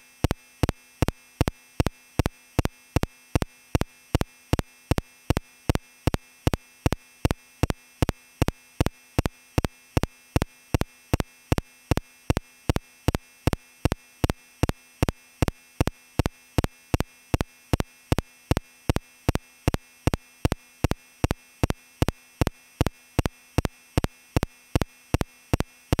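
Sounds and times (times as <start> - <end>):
faint steady hum: 0.0 - 26.0
sharp electronic ticking: 0.2 - 26.0.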